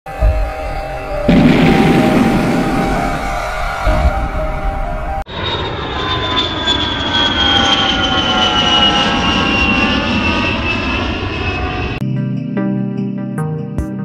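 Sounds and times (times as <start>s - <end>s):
high whine falling in pitch: 0.1s - 12.0s
propeller motor droning: 0.1s - 12.0s.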